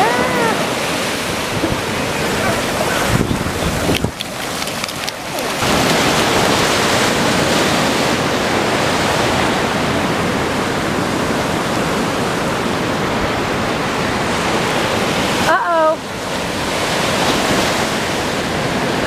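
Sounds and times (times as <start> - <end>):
ocean surf rushing on beach: 0.0 - 19.0.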